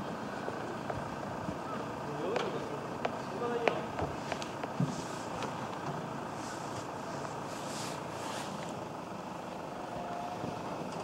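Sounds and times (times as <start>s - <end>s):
outdoor rumble and hiss: 0.0s - 11.0s.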